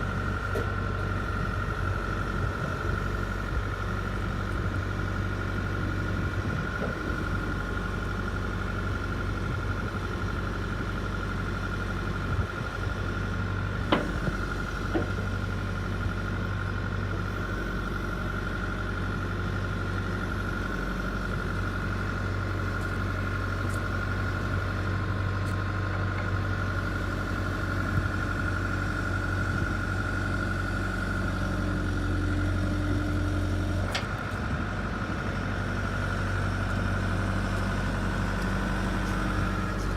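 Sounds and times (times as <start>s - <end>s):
diesel engine idling with whine: 0.0s - 39.9s.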